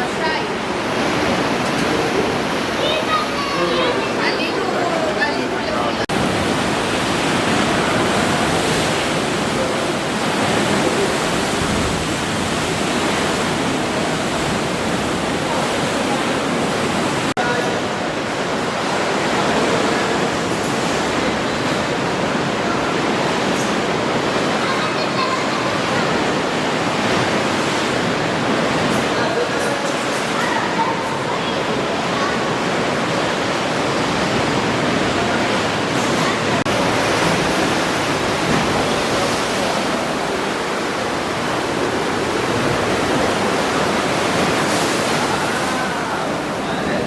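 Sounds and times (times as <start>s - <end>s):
sea waves washing against rocks: 0.0s - 47.0s.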